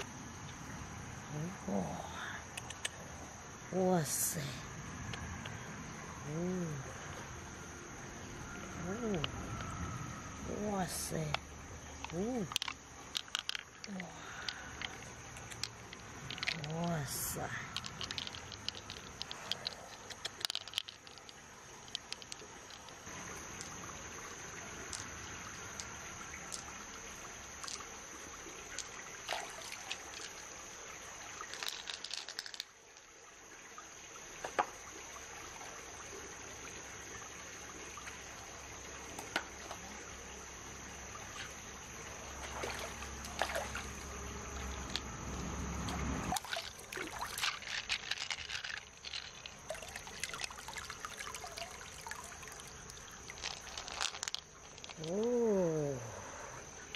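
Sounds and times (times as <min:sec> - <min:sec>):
stream water trickling and splashing: 0:00.0 - 0:56.9
light clicks of pearls and shell: 0:01.3 - 0:05.6, 0:08.6 - 0:33.2, 0:38.0 - 0:39.9, 0:41.1 - 0:56.9.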